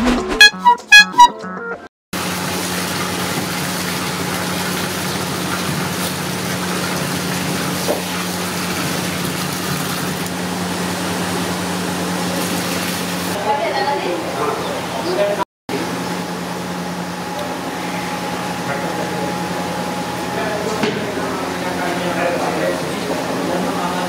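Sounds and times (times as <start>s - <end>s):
low machine hum: 2.2s - 24.0s.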